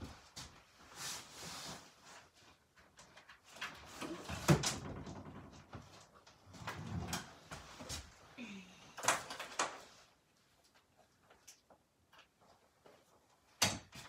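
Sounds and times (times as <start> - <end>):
household things rustling and bumping: 0.0 - 14.0.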